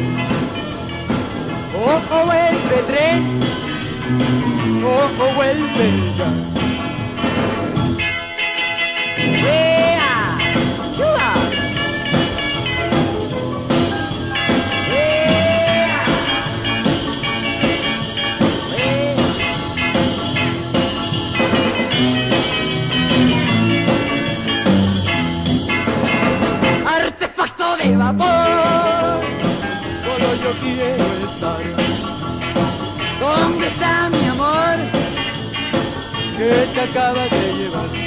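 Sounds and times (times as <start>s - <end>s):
rock and roll rhythm section: 0.0s - 38.0s.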